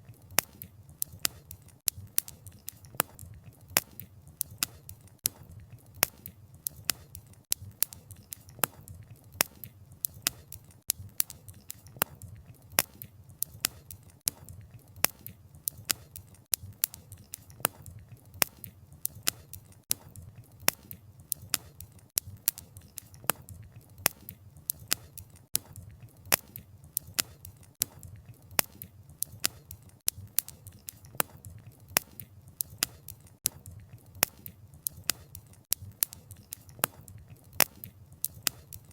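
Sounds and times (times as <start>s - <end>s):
campfire crackling: 0.1s - 38.9s.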